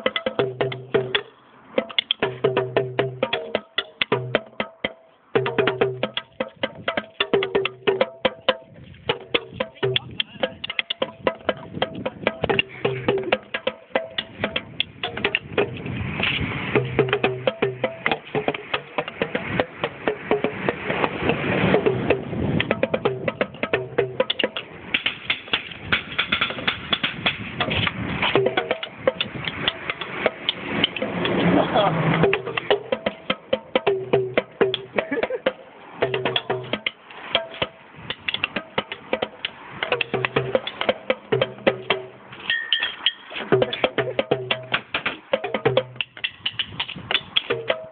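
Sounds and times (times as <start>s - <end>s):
small drums and objects struck: 0.0s - 31.5s, 32.1s - 47.9s.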